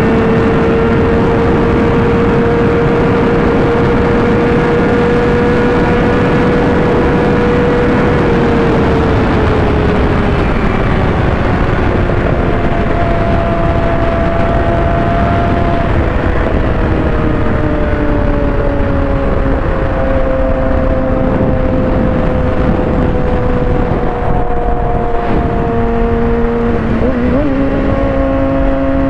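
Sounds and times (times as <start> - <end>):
motorcycle engine at high revs: 0.0 - 29.0
wind rush: 0.0 - 29.0.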